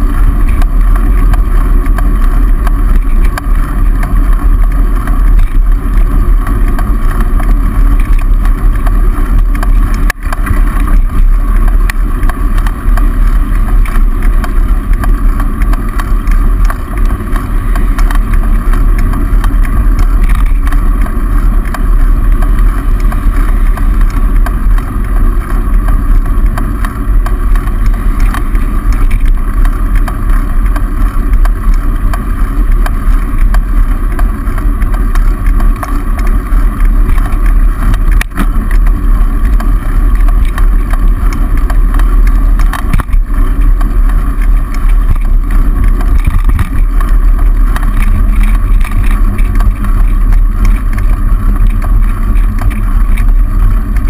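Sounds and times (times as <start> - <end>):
road noise: 0.0 - 54.0
wind rumble on microphone: 0.0 - 54.0.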